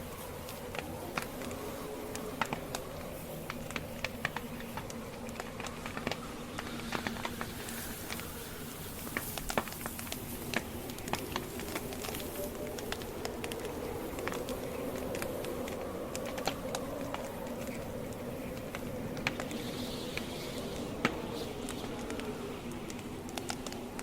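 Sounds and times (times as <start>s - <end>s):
campfire logs crackling: 0.0s - 24.0s
low hiss of flames: 0.0s - 24.0s.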